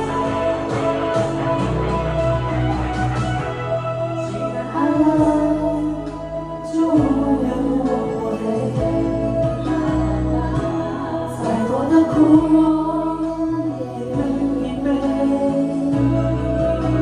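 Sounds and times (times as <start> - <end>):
steady bass line: 0.0 - 17.0.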